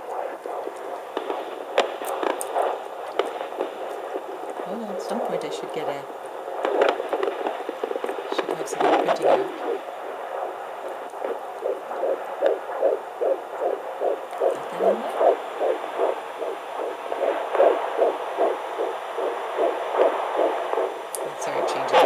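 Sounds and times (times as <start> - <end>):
fetal heartbeat whooshing pulses: 0.0 - 22.0.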